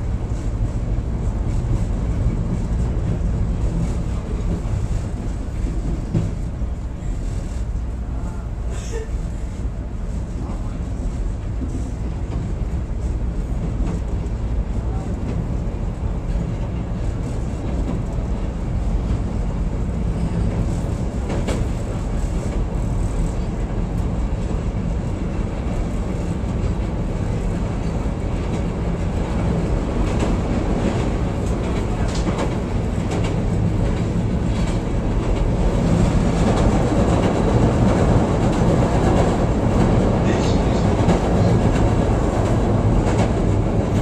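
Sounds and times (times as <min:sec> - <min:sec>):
train rumble from inside car: 0:00.0 - 0:44.0.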